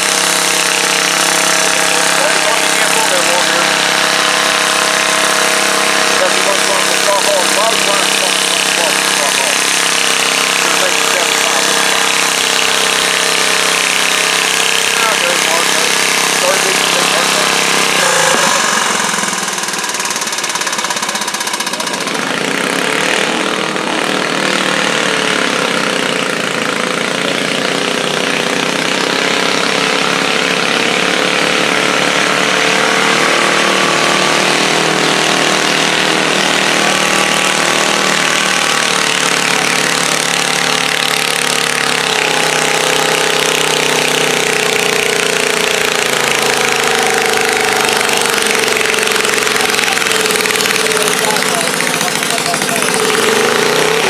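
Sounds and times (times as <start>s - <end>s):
garden tractor engine running: 0.0s - 54.0s.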